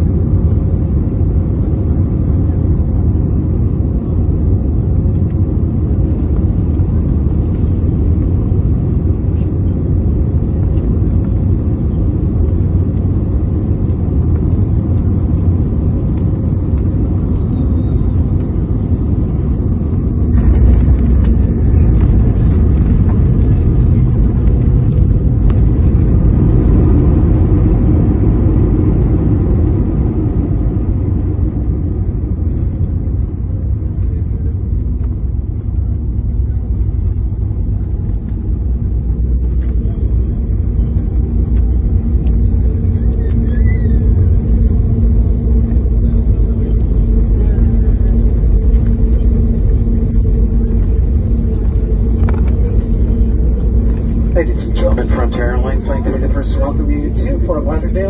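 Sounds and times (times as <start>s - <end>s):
jet engine and airflow rumble: 0.0s - 58.0s.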